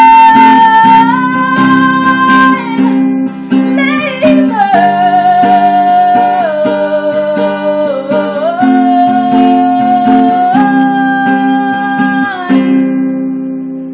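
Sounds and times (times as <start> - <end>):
woman singing long notes: 0.0 - 13.0
strummed acoustic guitar: 0.0 - 13.9.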